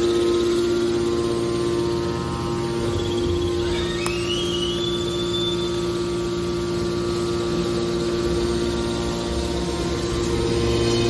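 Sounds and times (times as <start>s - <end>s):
faint high whine: 0.0s - 11.0s
hydraulic pump motor humming: 0.0s - 11.0s.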